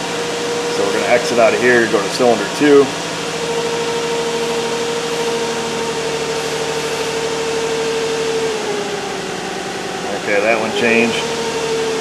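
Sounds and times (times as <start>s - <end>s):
car engine idling rough: 0.0s - 12.0s
steady hum: 0.0s - 12.0s.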